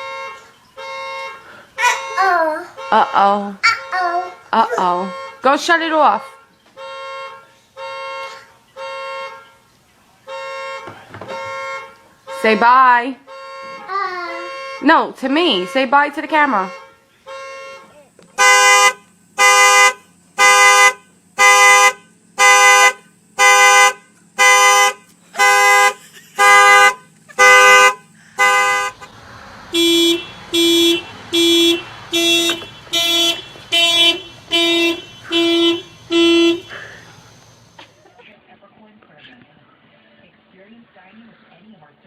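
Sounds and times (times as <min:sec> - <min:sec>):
car alarm horn honking: 0:00.0 - 0:37.7.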